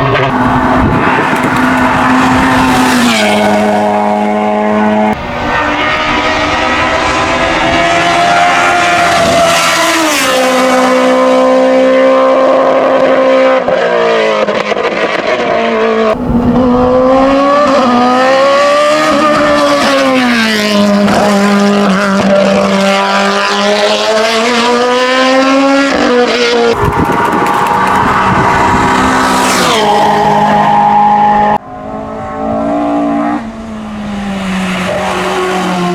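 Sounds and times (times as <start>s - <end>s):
race car engine revving: 0.0s - 35.9s.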